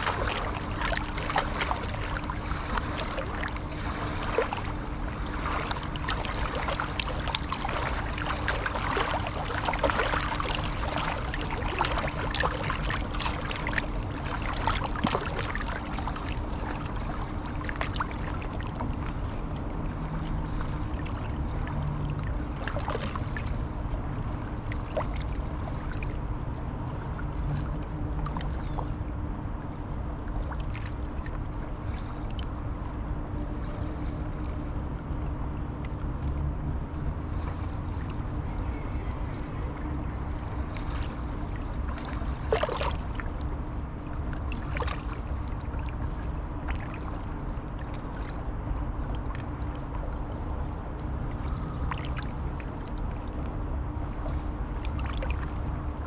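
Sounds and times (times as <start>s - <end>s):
faint low hum: 0.0s - 56.0s
river water flowing and lapping: 0.0s - 56.0s
small splashes and trickles: 0.0s - 56.0s.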